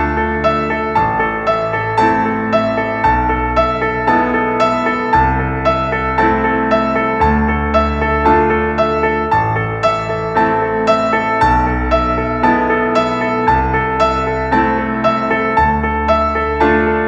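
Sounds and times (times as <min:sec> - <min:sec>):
gentle keyboard melody: 0:00.0 - 0:17.0
low bass notes: 0:00.0 - 0:17.0.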